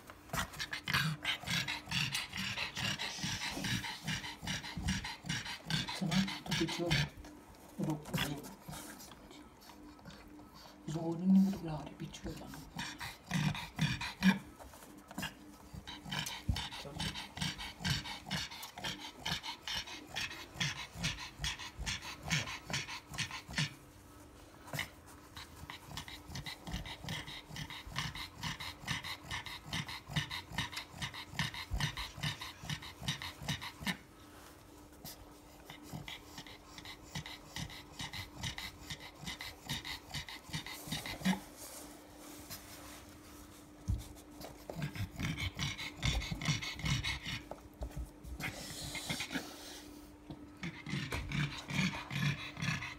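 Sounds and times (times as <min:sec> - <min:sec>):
dog panting rapidly: 0:00.0 - 0:52.9.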